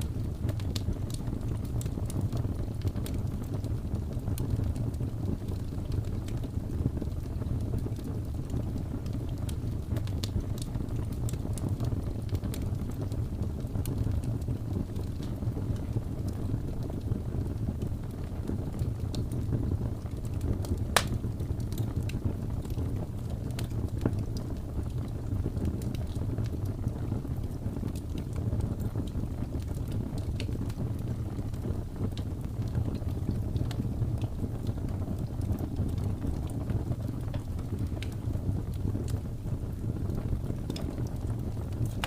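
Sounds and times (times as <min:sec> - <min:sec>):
fire pops and snaps: 0:00.0 - 0:42.0
wood fire crackling: 0:00.0 - 0:42.0.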